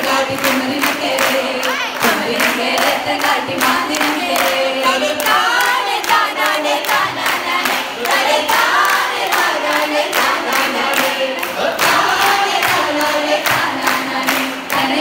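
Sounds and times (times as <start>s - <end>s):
group singing a folk song: 0.0s - 15.0s
hand-clapping: 0.0s - 15.0s
singer on a microphone: 0.0s - 15.0s.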